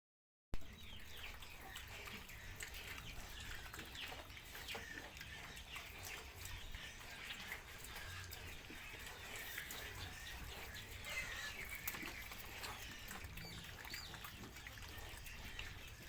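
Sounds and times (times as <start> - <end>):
high-pitched animal calls: 0.6 - 16.0.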